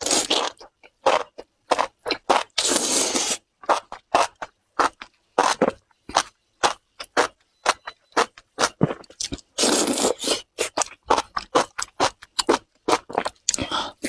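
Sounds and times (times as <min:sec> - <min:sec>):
crunchy wet chewing: 0:00.0 - 0:14.0.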